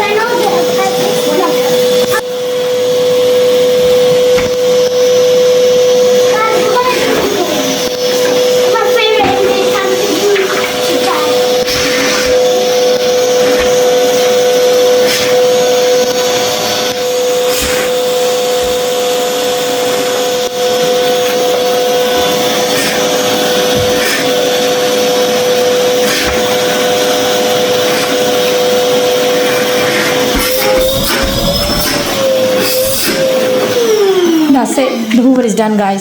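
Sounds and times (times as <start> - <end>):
vacuum cleaner motor whining: 0.0 - 36.0.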